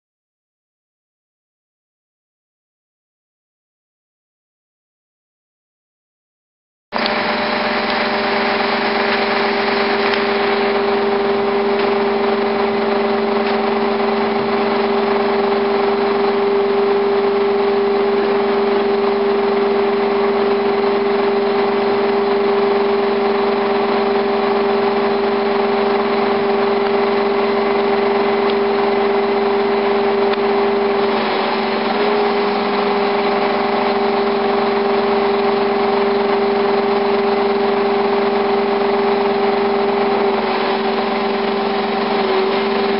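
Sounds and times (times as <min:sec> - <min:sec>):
diesel engine running: 0:07.0 - 0:42.9
strong steady hum: 0:07.0 - 0:42.9.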